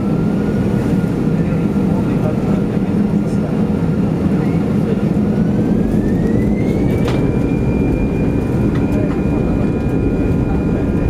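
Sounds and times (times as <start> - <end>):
jet engines spooling up: 0.0 - 11.0.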